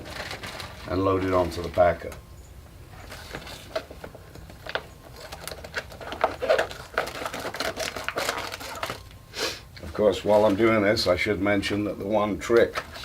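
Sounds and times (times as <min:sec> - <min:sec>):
plastic packaging crinkling: 0:00.0 - 0:02.2, 0:02.9 - 0:09.2, 0:09.9 - 0:13.0.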